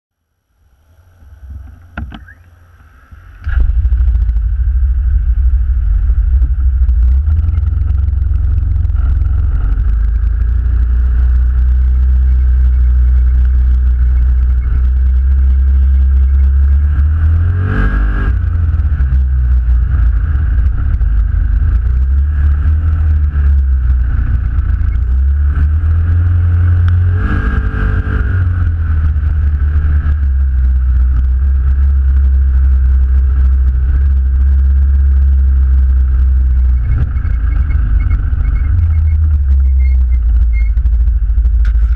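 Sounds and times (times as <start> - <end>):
vehicle engine rumbling: 0.1 - 41.9.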